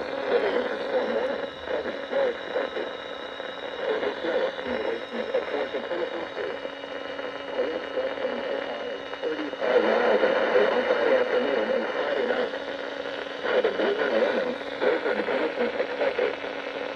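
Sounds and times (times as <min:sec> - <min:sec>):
muffled voice: 0:00.0 - 0:03.0, 0:03.7 - 0:16.5
radio static and hum: 0:00.0 - 0:16.9.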